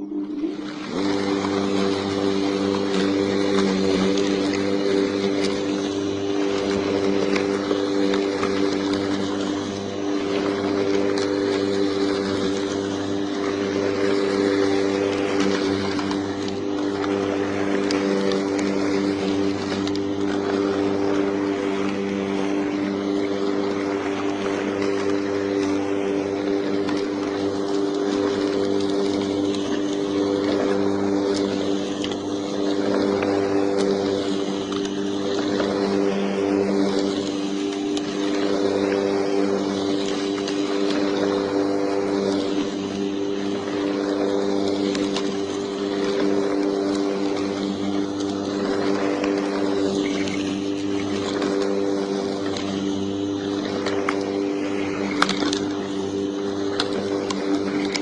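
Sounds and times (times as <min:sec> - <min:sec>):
electric lawn mower running: 0:00.0 - 0:58.0.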